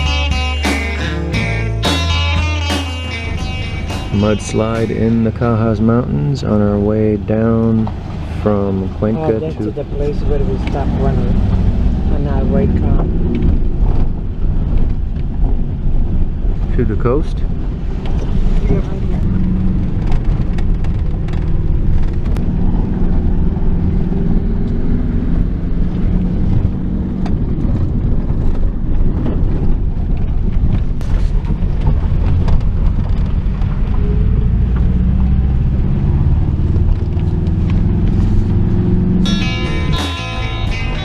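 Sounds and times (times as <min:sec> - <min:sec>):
car engine: 0:00.0 - 0:41.0
road noise: 0:00.0 - 0:41.0.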